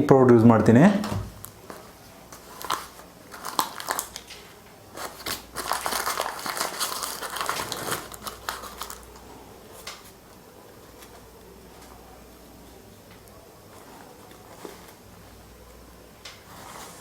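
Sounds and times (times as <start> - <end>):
crinkling and rustling: 0.6 - 17.0.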